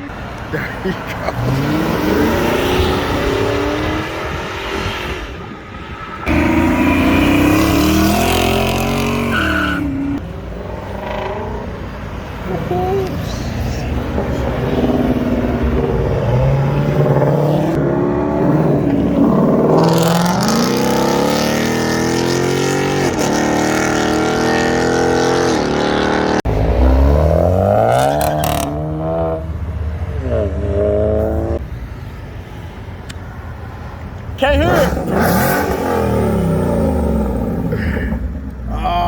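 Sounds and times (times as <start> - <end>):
car engines accelerating hard: 0.0 - 31.8, 34.3 - 39.0.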